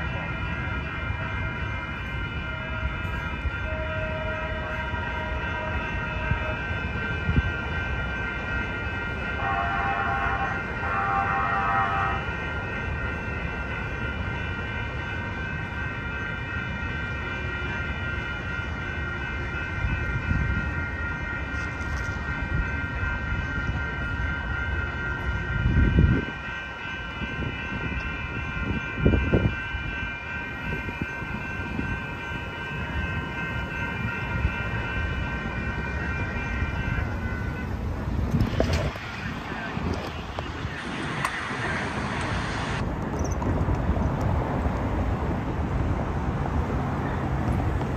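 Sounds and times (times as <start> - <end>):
train horn blasts: 0.0 - 41.3
passing train rumbling: 0.0 - 47.9
railroad crossing bells ringing: 0.0 - 47.9.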